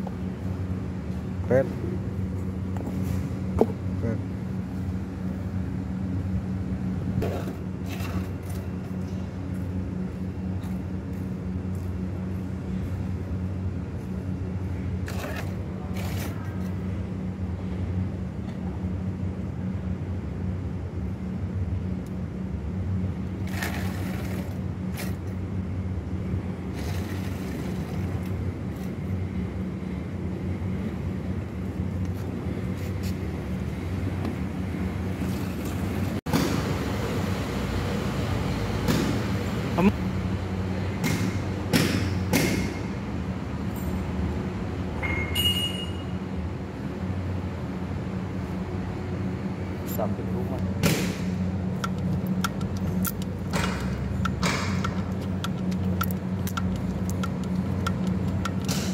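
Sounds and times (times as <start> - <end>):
steady low hum: 0.0 - 45.0, 46.0 - 58.9.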